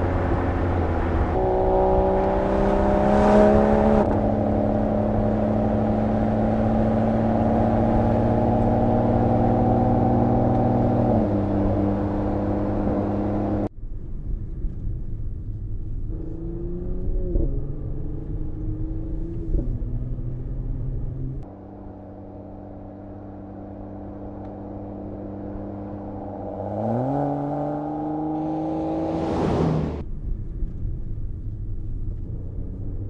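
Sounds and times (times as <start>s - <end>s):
car engine revving: 0.0s - 13.7s, 16.0s - 30.0s.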